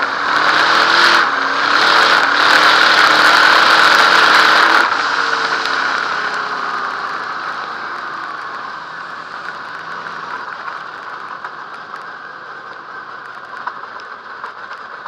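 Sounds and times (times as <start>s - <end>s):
race car engine winding down: 0.0s - 15.0s
wind and track noise: 0.0s - 15.0s.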